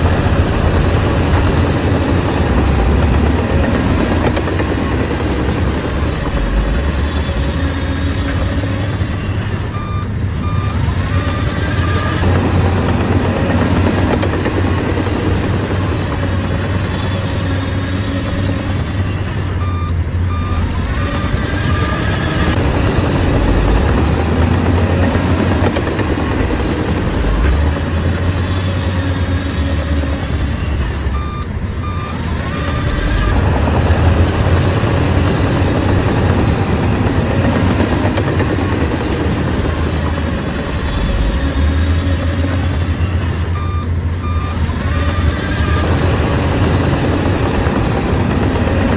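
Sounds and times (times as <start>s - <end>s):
reversing alarm beeps: 0.0s - 15.2s, 16.8s - 27.8s, 28.6s - 38.6s, 40.8s - 48.8s
bulldozer diesel engine rumbling: 0.0s - 48.9s.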